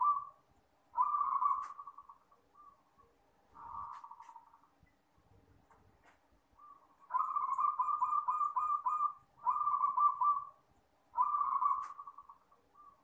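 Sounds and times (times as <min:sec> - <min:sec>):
dove cooing: 0:00.0 - 0:04.6, 0:06.6 - 0:13.0.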